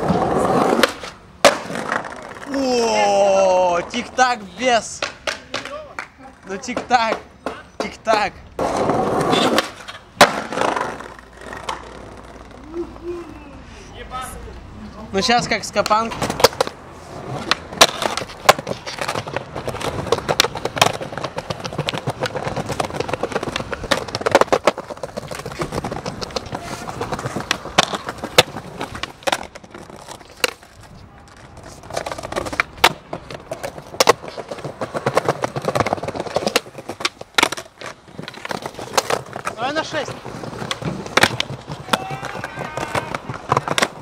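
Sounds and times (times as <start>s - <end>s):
skateboard clacking: 0.0s - 2.6s, 3.3s - 12.7s, 15.4s - 44.0s
skateboard wheels rolling on pavement: 0.0s - 44.0s.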